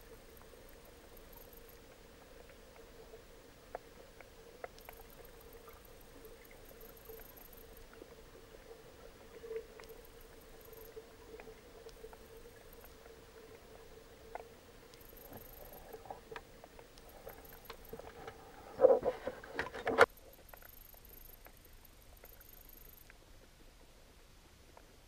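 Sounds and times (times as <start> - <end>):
underwater clicks and crackles: 0.0 - 25.0.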